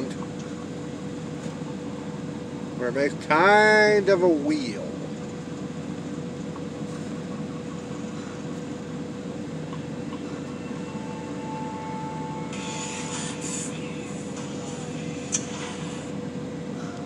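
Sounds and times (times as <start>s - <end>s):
truck cab mechanical hum: 0.0s - 17.0s.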